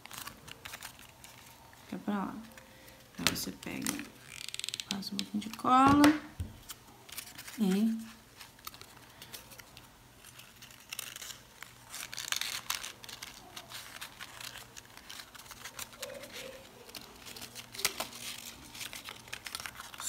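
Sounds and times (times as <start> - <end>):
paper rustling and crinkling: 0.0 - 4.4, 5.4 - 20.0.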